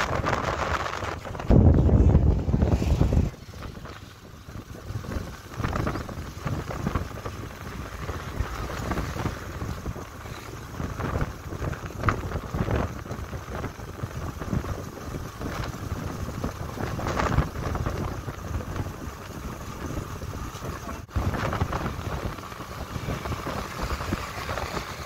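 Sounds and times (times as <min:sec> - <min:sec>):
road noise: 0:00.0 - 0:25.0
wind buffeting microphone: 0:00.0 - 0:25.0.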